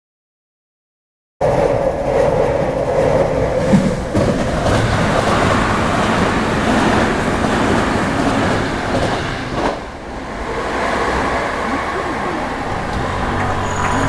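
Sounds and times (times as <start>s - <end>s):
train wheels rumbling on rails: 1.4s - 14.0s.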